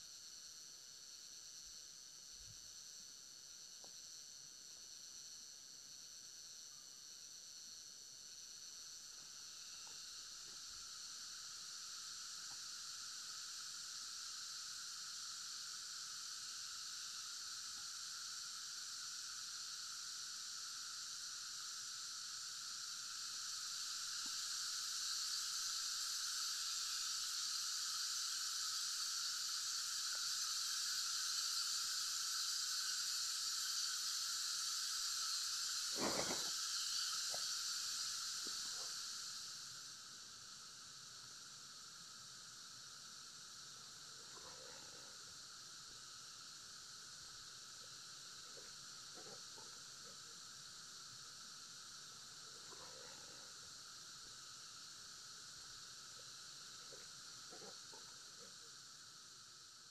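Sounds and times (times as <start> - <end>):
cicada chorus: 0.0 - 59.9.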